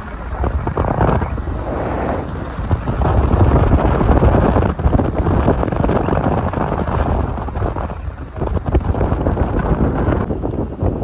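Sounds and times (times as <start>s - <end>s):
road noise: 0.0s - 11.0s
vehicle engine: 0.0s - 11.0s
wind buffeting microphone: 0.0s - 11.0s.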